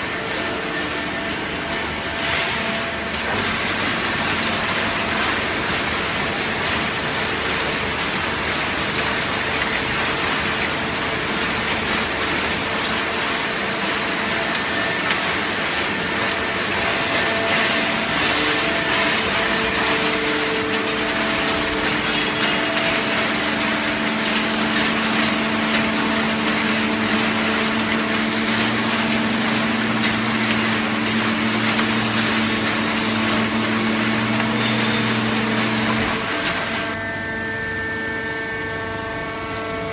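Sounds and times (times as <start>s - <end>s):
baler machine noise: 0.0s - 39.9s
hydraulic pump hum: 0.0s - 39.9s.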